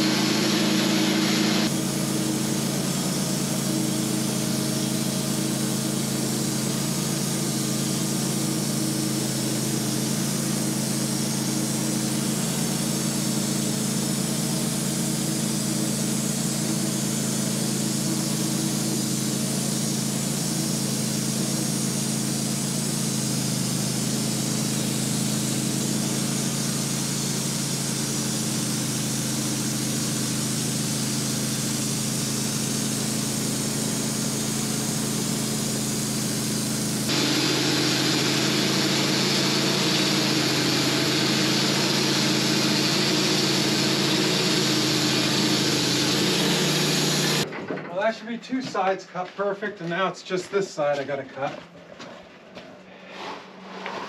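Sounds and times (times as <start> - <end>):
sawmill engine running under load: 0.0 - 47.5.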